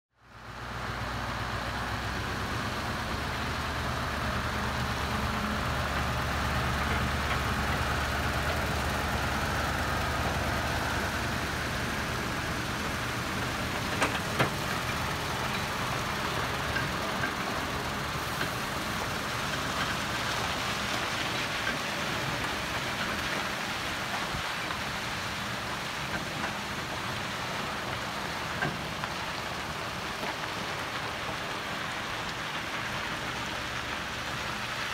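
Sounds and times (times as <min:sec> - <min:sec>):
diesel truck engine: 0:00.2 - 0:34.9
steady hiss: 0:00.4 - 0:34.9.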